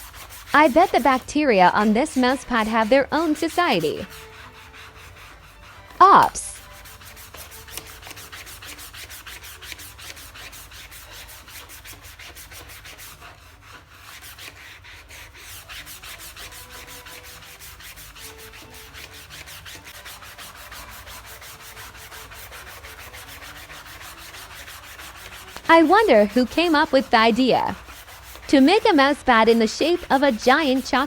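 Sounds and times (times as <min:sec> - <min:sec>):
sponge scrubbing fabric pad: 0:00.0 - 0:31.0.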